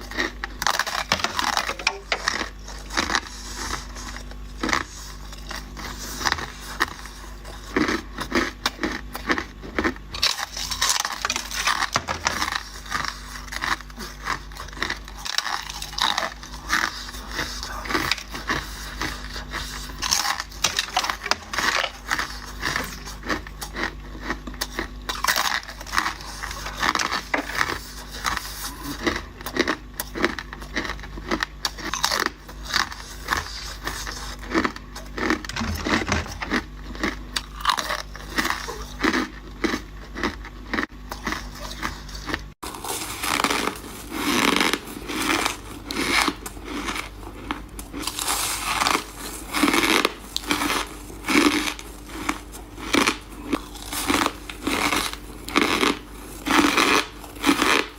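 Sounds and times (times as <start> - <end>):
faint low hum: 0.0 - 57.9
ice being crunched and chewed: 0.0 - 57.9.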